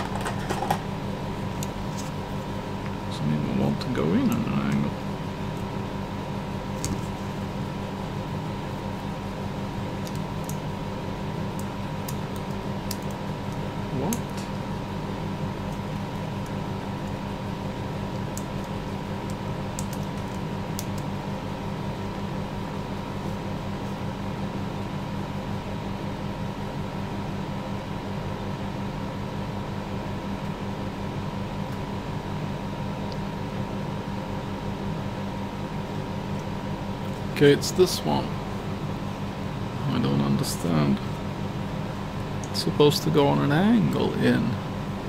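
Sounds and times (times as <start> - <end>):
machine hum: 0.0 - 45.0.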